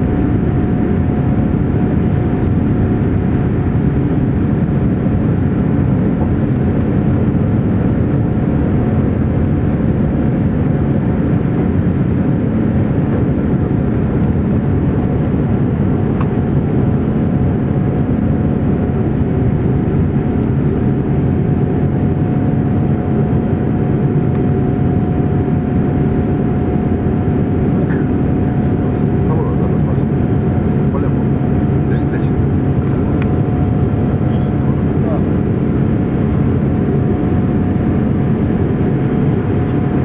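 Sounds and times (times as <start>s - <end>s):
jet engines droning: 0.0s - 40.0s.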